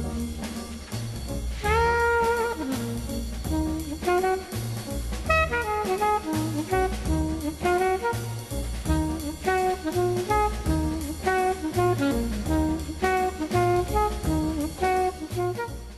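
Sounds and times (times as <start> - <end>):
instrumental jazz music: 0.0 - 15.9.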